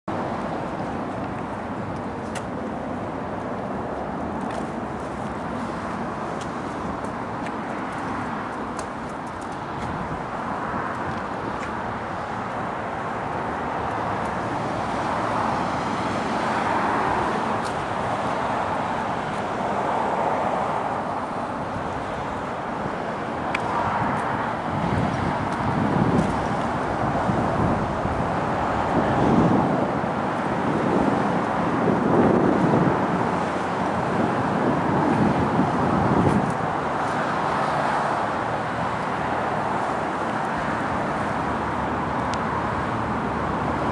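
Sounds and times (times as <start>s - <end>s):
low traffic rumbles: 0.0s - 43.9s
road traffic rushing: 0.0s - 43.9s.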